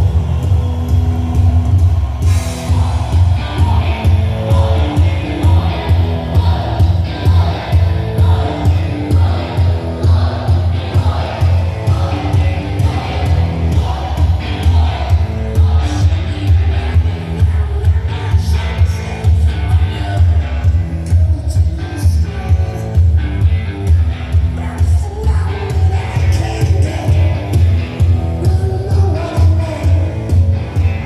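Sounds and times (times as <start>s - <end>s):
rock music with singing: 0.0s - 31.0s.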